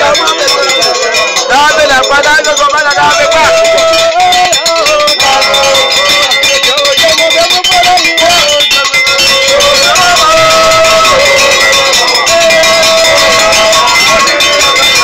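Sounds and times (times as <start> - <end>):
rapid clanking percussion: 0.0 - 15.0
voices singing together: 0.0 - 15.0.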